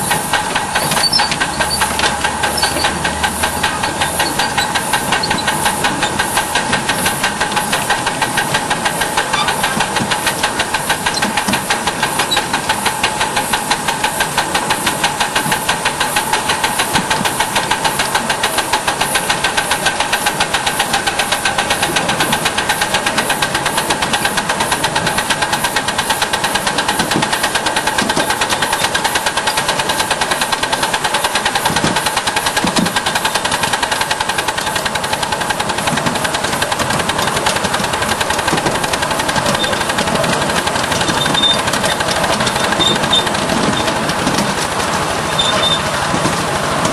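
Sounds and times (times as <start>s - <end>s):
steam hissing: 0.0s - 46.9s
steam locomotive chuffing: 0.0s - 46.9s.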